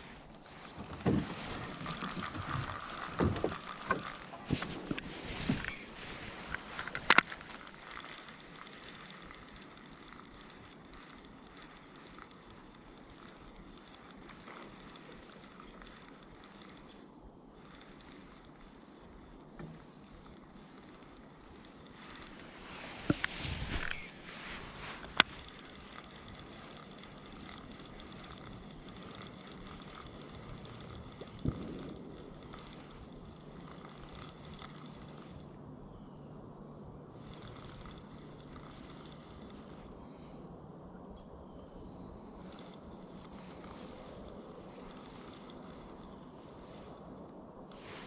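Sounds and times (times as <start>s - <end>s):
outdoor background noise: 0.0s - 48.0s.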